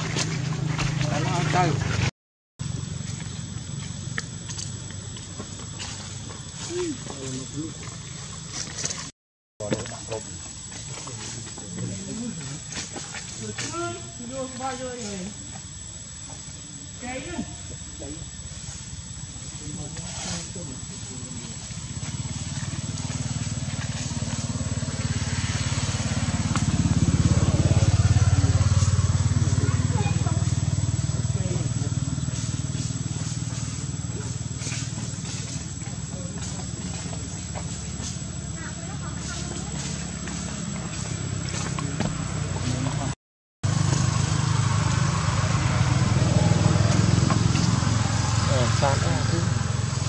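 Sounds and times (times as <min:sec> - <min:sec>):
small engine running: 0:00.0 - 0:09.1, 0:17.0 - 0:50.0.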